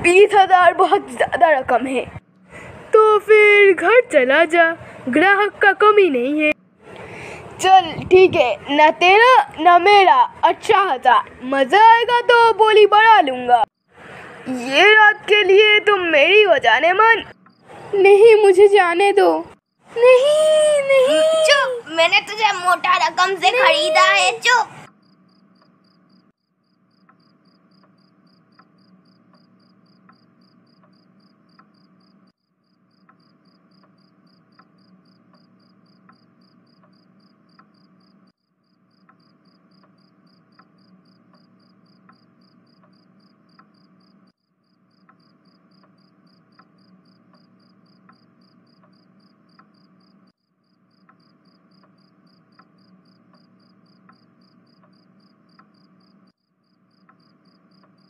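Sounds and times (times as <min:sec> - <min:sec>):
crickets chirping: 0:09.0 - 0:58.0.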